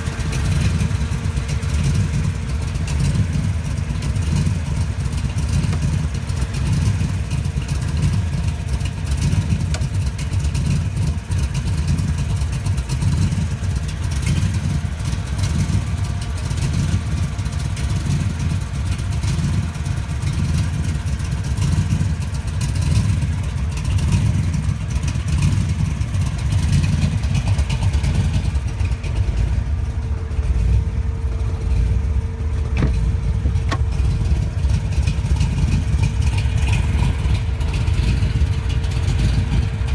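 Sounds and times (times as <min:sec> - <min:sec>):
car engine running at low revs: 0:00.0 - 0:39.9.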